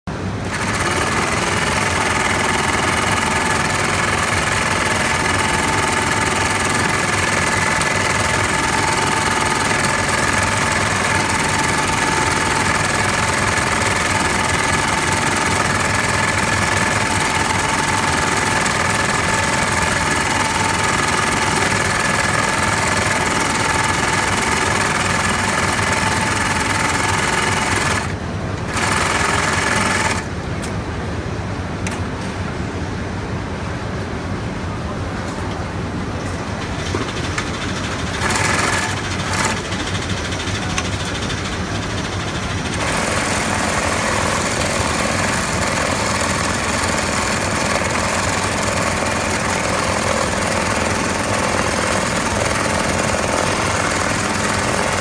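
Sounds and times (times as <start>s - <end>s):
industrial sewing machine running: 0.1s - 30.4s, 36.0s - 55.0s.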